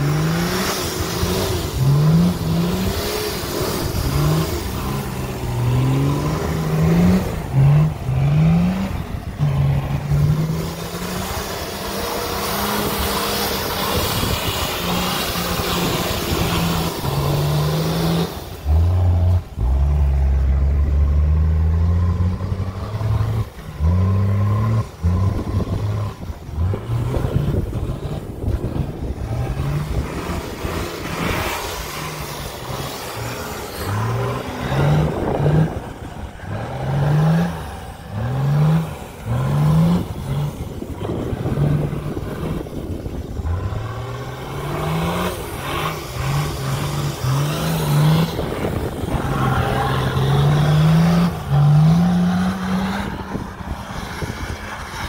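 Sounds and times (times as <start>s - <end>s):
engine revving hard: 0.0s - 55.0s.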